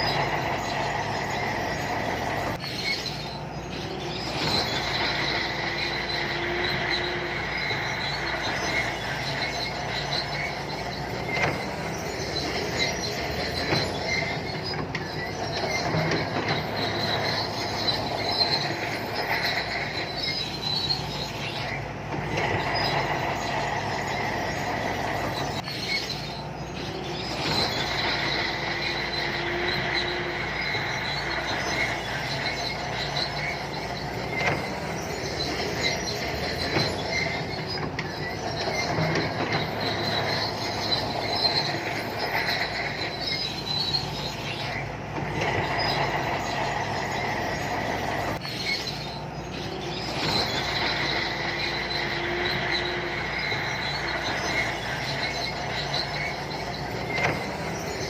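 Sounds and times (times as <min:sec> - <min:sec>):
diesel engine running: 0:00.0 - 0:58.0
high steady squeal: 0:00.0 - 0:58.0
steel tracks squealing and clanking: 0:00.0 - 0:58.0.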